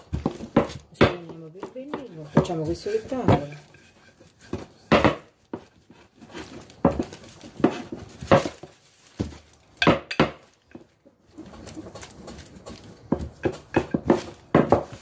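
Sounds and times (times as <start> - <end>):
plastic bag rustling: 0.0 - 15.0
rolling pin knocking on butter: 0.0 - 15.0.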